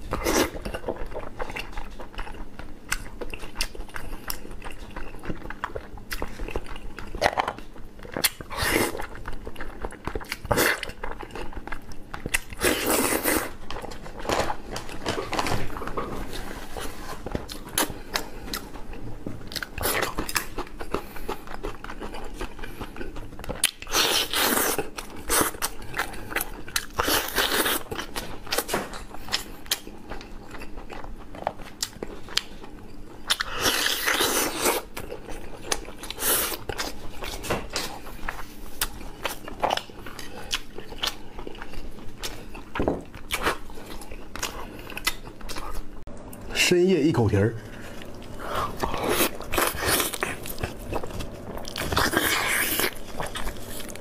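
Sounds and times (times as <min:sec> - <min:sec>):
man chewing food: 0:00.0 - 0:46.6, 0:47.6 - 0:54.0.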